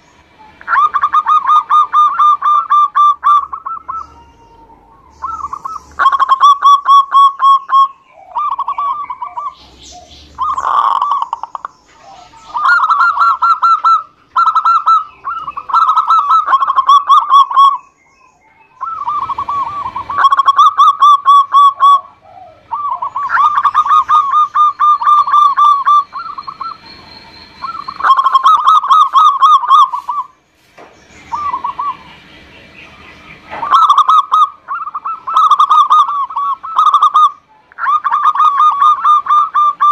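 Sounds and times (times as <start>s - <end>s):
dove cooing: 0.0s - 30.4s, 31.2s - 39.9s.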